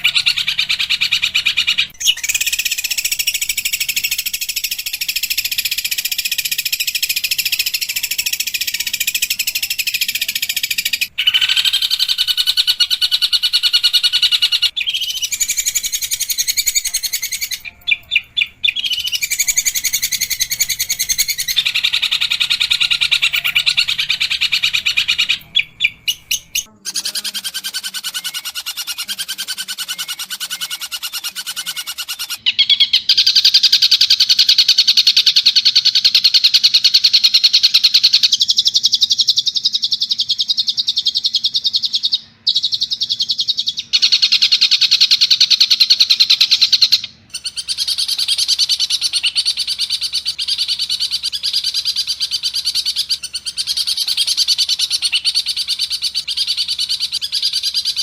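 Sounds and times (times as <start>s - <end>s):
bird singing harsh chattering song: 0.0s - 58.0s.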